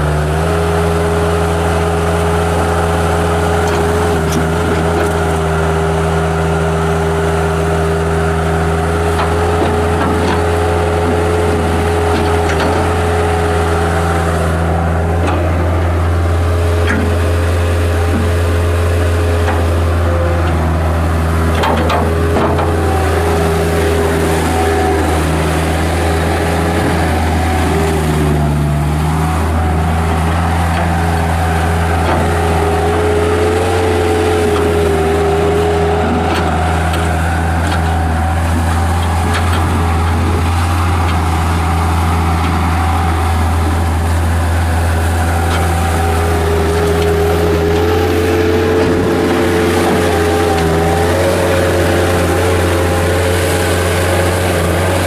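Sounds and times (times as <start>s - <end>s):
diesel loader engine droning: 0.0s - 55.0s.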